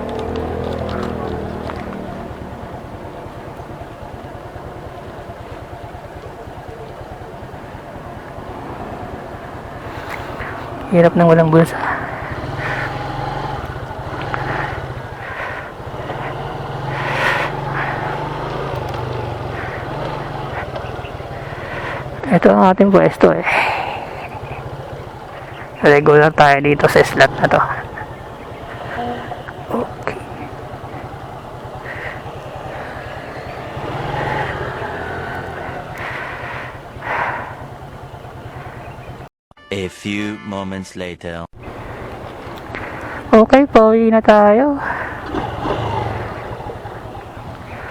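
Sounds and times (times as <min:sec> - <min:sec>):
motorcycle engine running: 0:00.0 - 0:39.3, 0:41.6 - 0:47.9.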